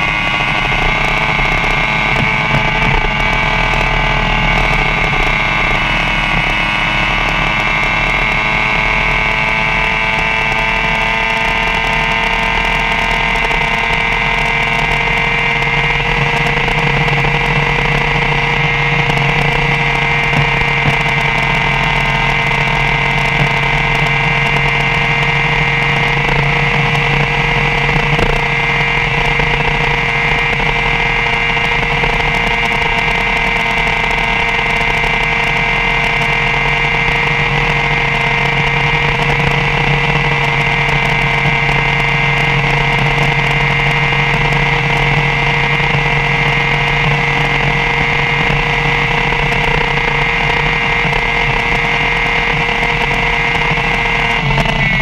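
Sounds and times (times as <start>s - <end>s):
motorcycle engine at high rpm: 0.0s - 55.0s.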